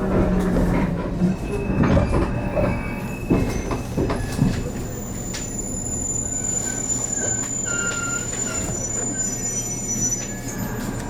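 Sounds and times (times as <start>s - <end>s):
train low hum and whine: 0.0s - 11.0s
wheel and brake squeals: 0.4s - 11.0s.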